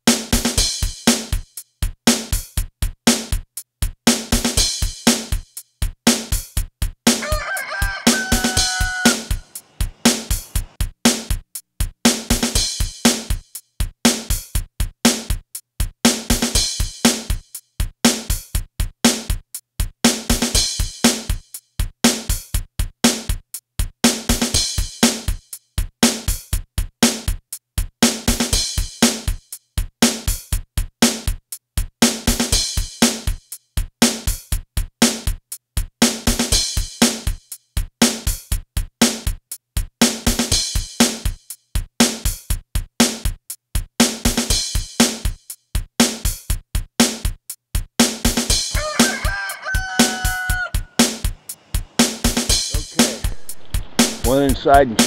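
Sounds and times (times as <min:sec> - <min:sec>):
music with drum-machine beat: 0:00.0 - 0:55.0.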